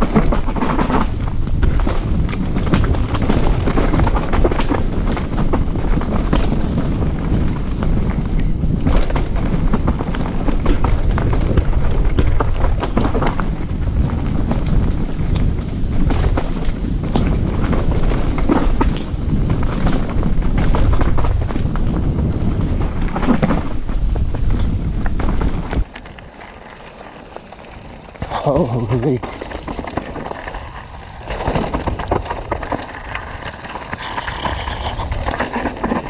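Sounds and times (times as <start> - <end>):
wind on camera microphone: 0.0 - 25.9, 28.7 - 36.0
bike rattling over rough trail: 0.0 - 36.0.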